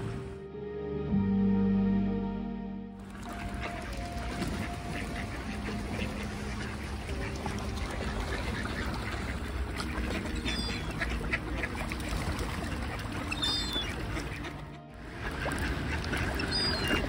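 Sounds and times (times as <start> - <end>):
ducks quacking: 3.0 - 17.0.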